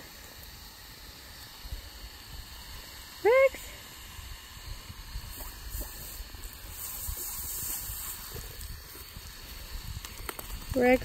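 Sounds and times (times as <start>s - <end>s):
garden hose spraying water: 0.0s - 11.0s.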